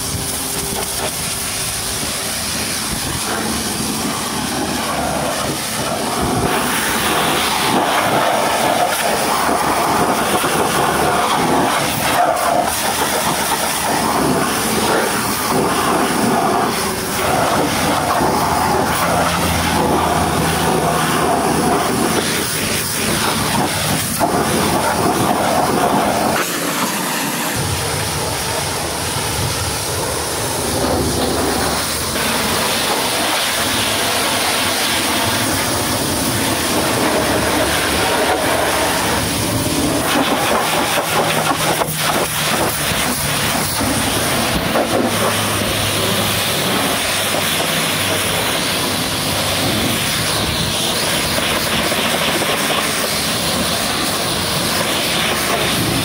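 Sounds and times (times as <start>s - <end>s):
pressure washer spraying truck: 0.0s - 56.0s.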